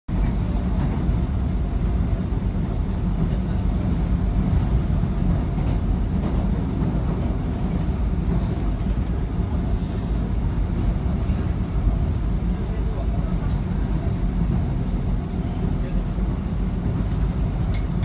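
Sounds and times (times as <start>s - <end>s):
train wheels rumbling on rails: 0.1s - 18.0s.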